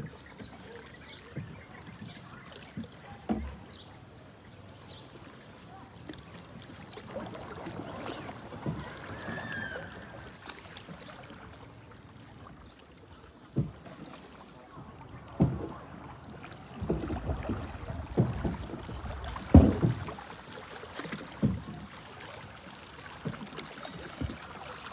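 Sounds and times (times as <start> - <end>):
water swishing along boat hull: 0.0 - 24.9.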